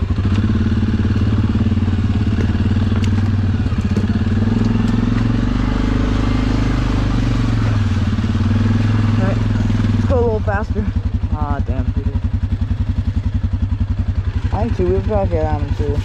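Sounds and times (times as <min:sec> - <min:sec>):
single-cylinder engine running: 0:00.0 - 0:16.0.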